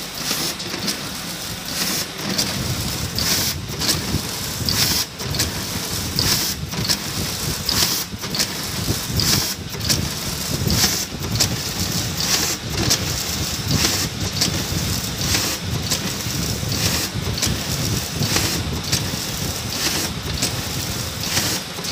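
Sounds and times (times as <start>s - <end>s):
machine hiss: 0.0s - 21.9s
packing machine clatter: 0.0s - 21.9s.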